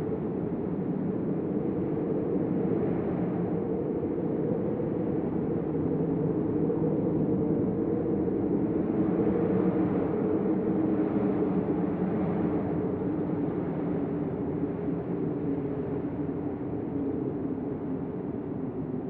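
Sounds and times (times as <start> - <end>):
deep rushing storm wind: 0.0 - 19.0.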